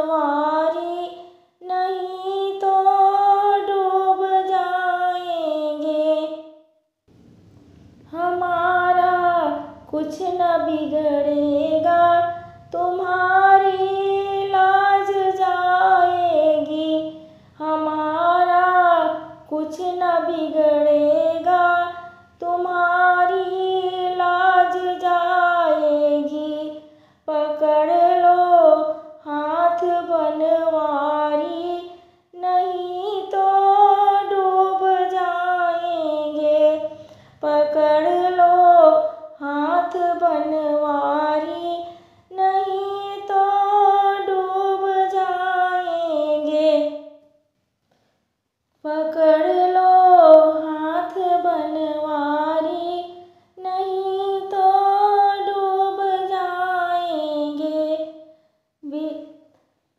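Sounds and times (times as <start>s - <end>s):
woman singing unaccompanied: 0.0s - 6.6s, 8.0s - 47.2s, 48.8s - 58.2s, 58.8s - 59.4s.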